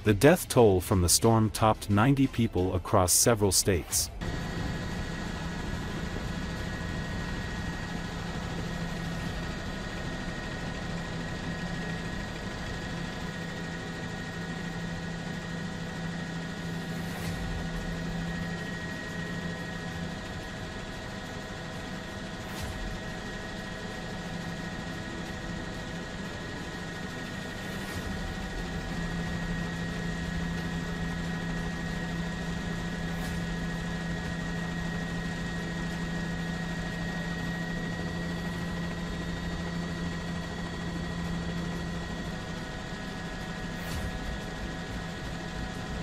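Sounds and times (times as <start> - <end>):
helicopter engine and rotor: 0.0 - 46.0.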